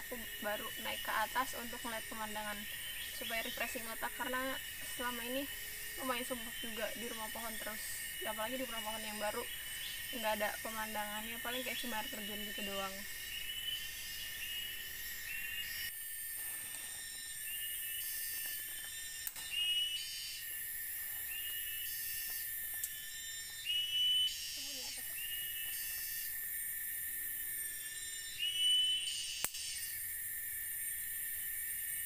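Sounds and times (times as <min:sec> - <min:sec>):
high insect buzzing: 0:00.0 - 0:32.0
insect drone: 0:00.0 - 0:32.0
rising insect chirp: 0:00.0 - 0:32.0.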